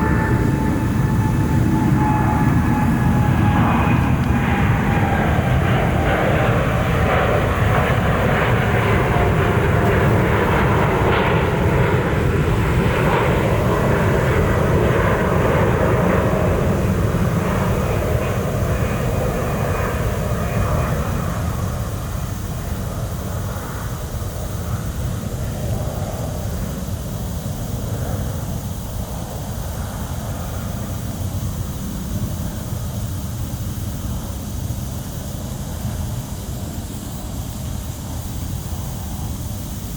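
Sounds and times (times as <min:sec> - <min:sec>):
jet airliner passing overhead: 0:00.0 - 0:39.9.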